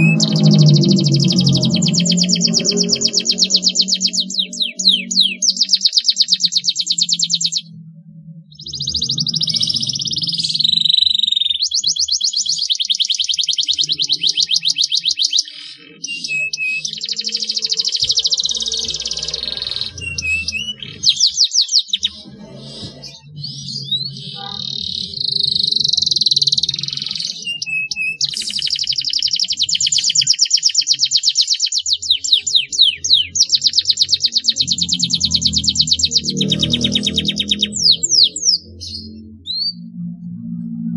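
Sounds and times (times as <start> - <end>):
canary trilling: 0.0 - 7.9, 8.5 - 40.0.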